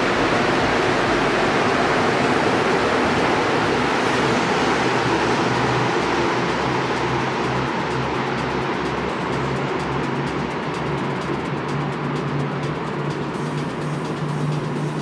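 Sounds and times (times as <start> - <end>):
subway train rolling rumble: 0.0 - 15.0.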